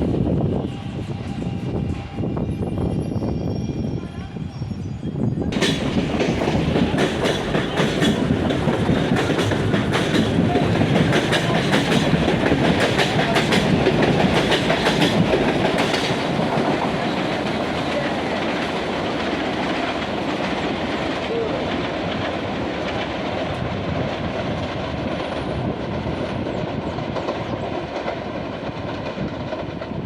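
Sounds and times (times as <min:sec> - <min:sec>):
train wheels clattering over rails: 0:05.5 - 0:30.0.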